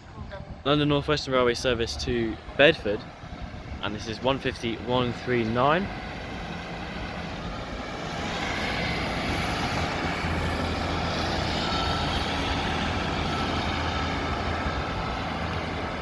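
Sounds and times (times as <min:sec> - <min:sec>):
diesel train pulling away: 0:00.0 - 0:16.0.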